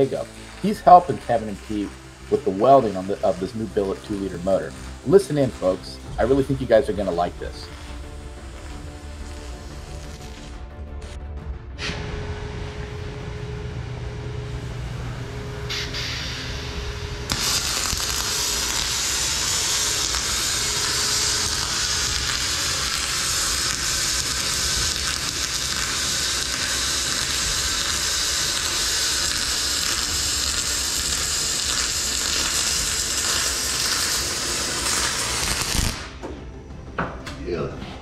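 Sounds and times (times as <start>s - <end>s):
welding arc hissing: 0.0s - 11.2s, 11.8s - 36.2s.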